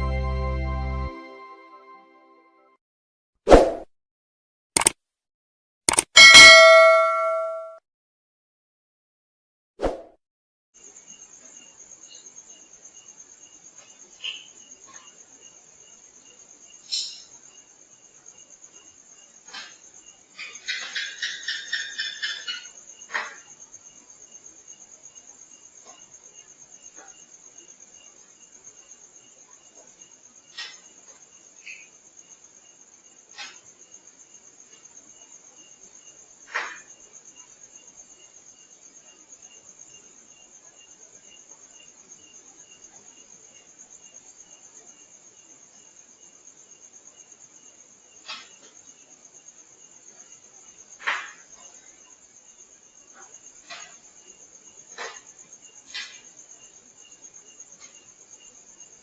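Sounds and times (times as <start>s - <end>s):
crickets trilling: 10.8s - 59.0s.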